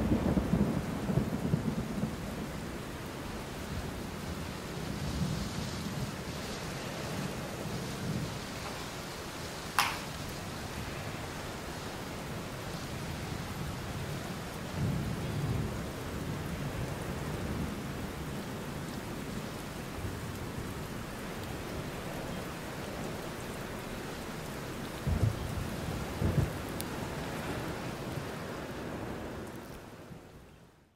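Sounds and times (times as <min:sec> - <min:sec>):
steady rain: 0:00.0 - 0:30.9.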